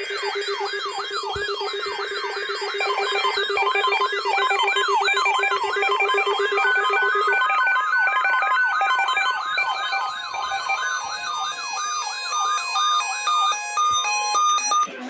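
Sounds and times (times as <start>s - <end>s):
warbling siren-like tone: 0.0s - 14.9s
stepped beeping notes: 0.0s - 15.0s.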